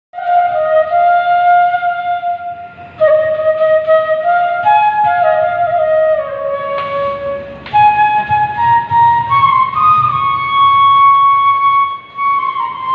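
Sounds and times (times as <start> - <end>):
bamboo flute melody: 0.2 - 12.9.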